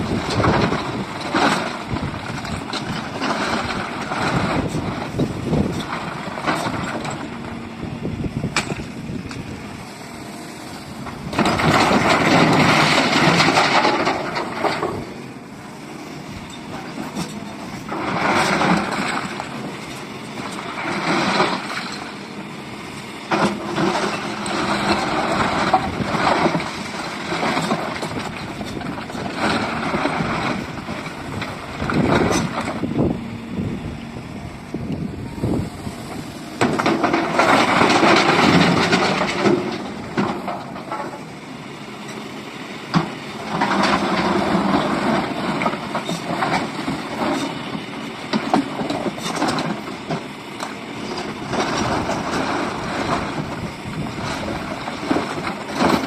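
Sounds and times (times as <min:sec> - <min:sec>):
excavator engine surging: 0:00.0 - 0:56.0.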